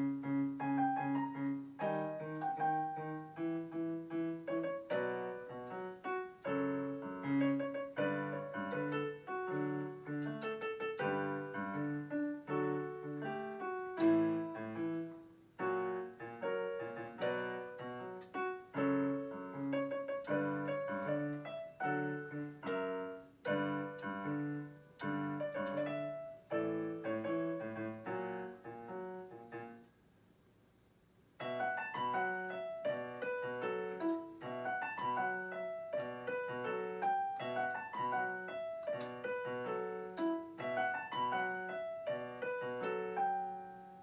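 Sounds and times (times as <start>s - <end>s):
solo piano: 0.0s - 44.0s.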